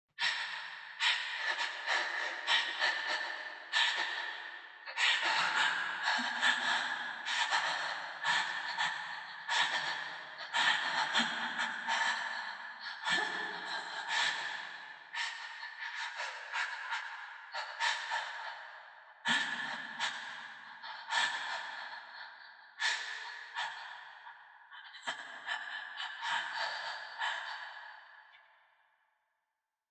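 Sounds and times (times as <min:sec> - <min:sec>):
woman breathing with echo: 0:00.2 - 0:29.2.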